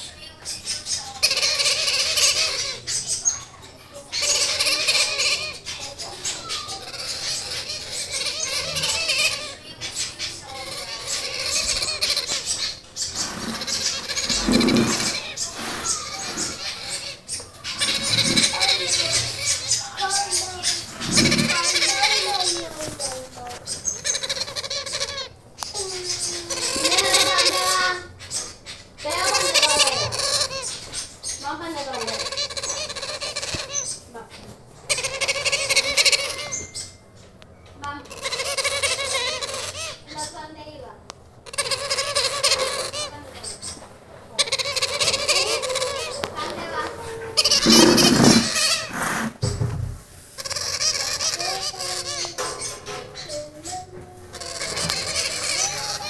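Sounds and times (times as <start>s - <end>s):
parrot chicks begging calls: 0.0s - 56.0s.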